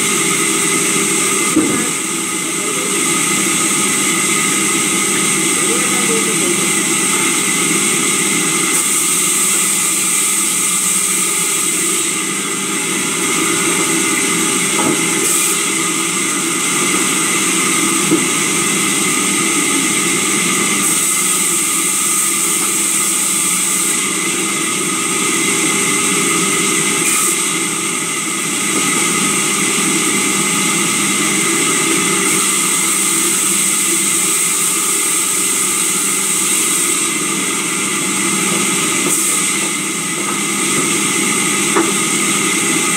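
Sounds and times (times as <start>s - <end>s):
bench saw cutting timber: 0.0s - 42.9s.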